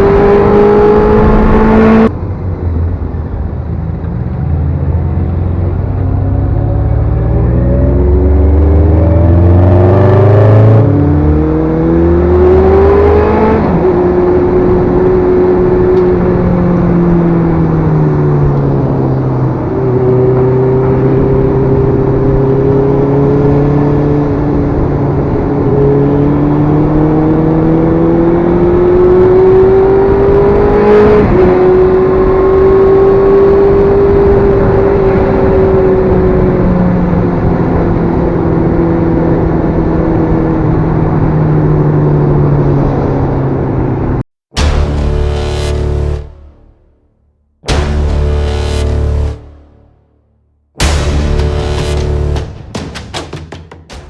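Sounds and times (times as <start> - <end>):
motorcycle engine accelerating: 0.0 - 50.2, 50.8 - 53.2
wind and road noise: 0.0 - 50.2.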